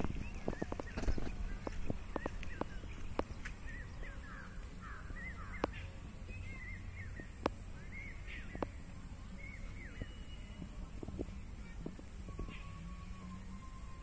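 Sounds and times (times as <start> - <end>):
birds chirping: 0.0 - 14.0
low rumble of wind: 0.0 - 14.0.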